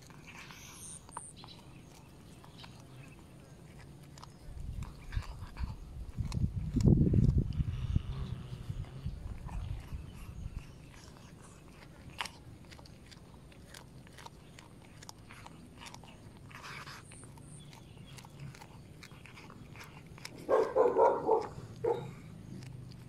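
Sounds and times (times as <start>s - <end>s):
cat chewing with crunching clicks: 0.0s - 23.0s.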